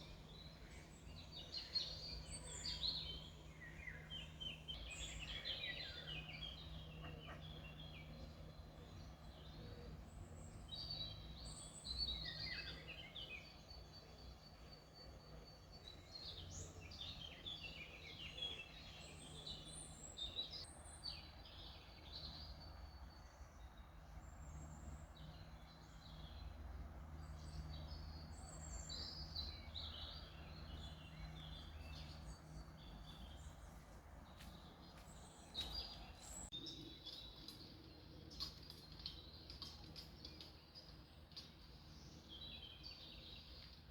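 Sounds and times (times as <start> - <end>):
songbirds chirping and singing: 0.0 - 43.9.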